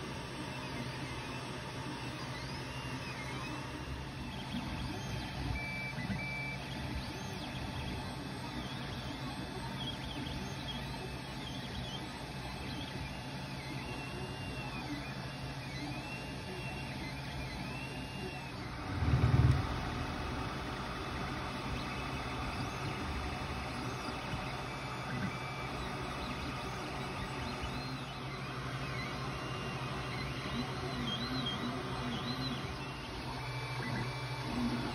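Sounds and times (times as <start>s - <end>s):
cooling fans humming: 0.0s - 34.9s
stepper motors whirring: 0.6s - 34.9s.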